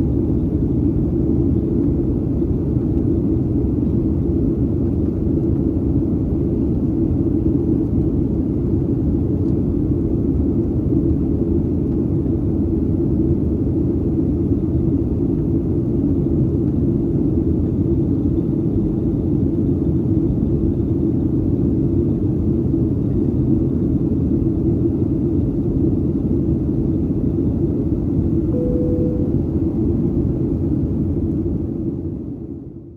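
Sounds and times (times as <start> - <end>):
airplane cabin rumble: 0.0 - 32.7.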